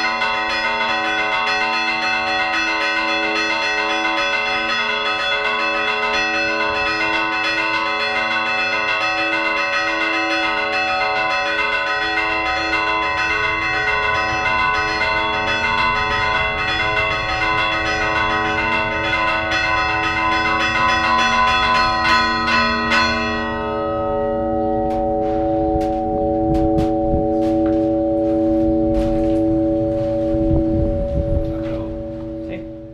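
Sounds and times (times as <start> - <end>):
church bells ringing fast: 0.0 - 32.9
large bells humming: 0.0 - 32.9.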